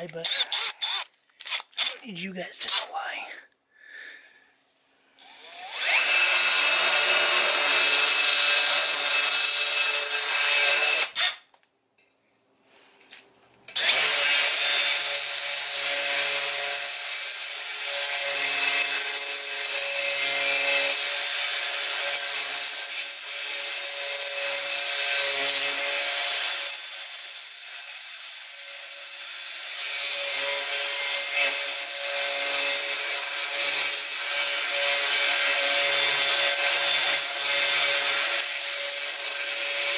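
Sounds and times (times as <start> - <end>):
cordless drill cutting aluminium: 0.0 - 2.0, 5.2 - 11.5, 13.7 - 39.9.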